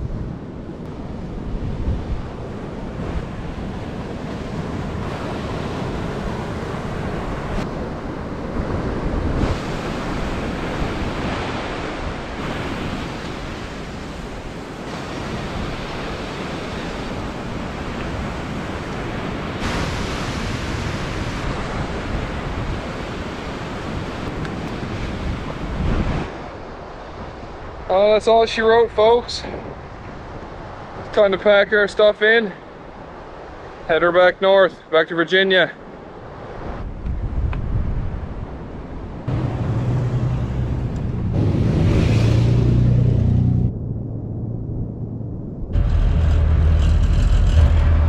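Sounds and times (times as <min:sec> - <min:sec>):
wind buffeting microphone: 0:00.0 - 0:31.1, 0:35.9 - 0:48.0
ocean surf breaking on beach: 0:00.0 - 0:43.5.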